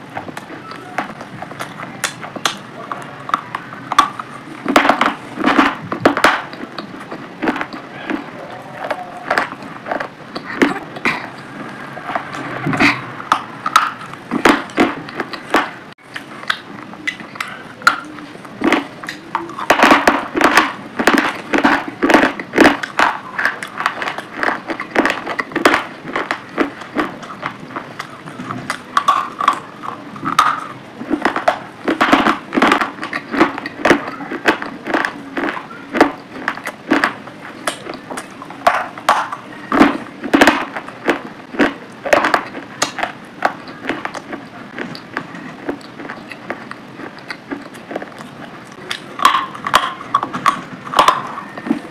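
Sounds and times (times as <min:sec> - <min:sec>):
crunching hard chalky stick: 0:00.1 - 0:51.9.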